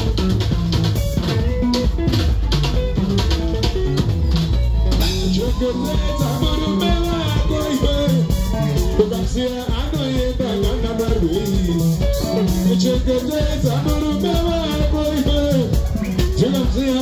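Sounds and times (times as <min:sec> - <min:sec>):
drum kit: 0:00.0 - 0:17.0
electric bass: 0:00.0 - 0:17.0
electric guitars: 0:00.0 - 0:17.0.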